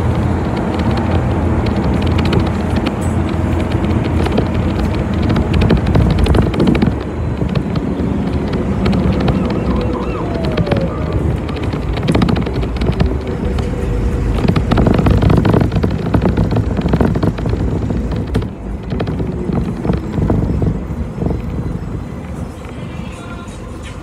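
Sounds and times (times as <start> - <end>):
rattling: 0.0 - 23.6
bus engine and road rumble: 0.0 - 24.0.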